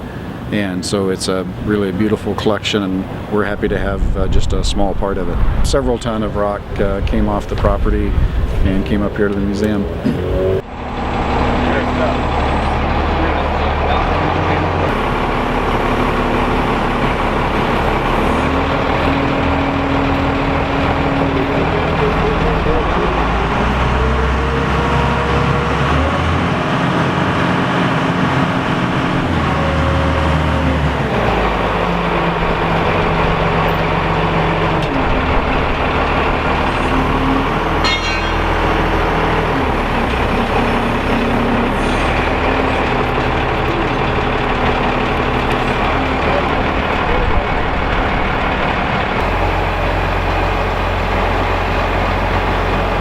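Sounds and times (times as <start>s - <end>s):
heavy engine running: 0.0s - 53.0s.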